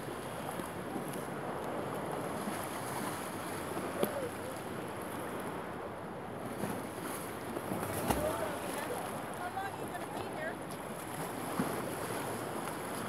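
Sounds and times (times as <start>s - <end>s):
waves washing against a pier: 0.0s - 13.0s.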